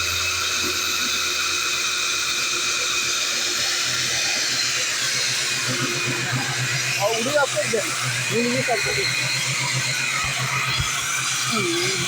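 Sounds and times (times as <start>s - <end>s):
core drill boring through concrete: 0.0s - 12.0s.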